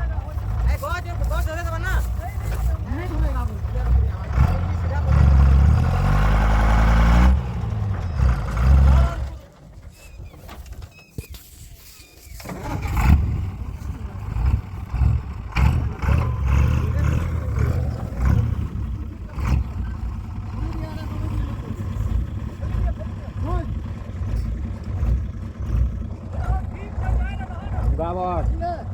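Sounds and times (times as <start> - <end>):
tractor engine revving hard: 0.0 - 10.2, 12.4 - 28.9.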